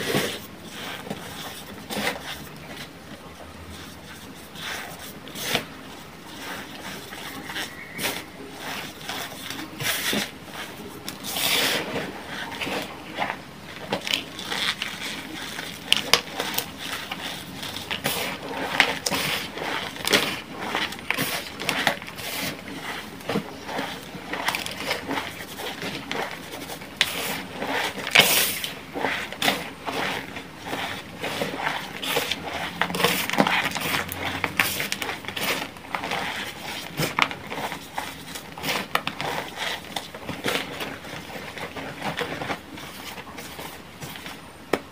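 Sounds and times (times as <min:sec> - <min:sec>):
hands crumbling chalk: 0:06.3 - 0:44.9.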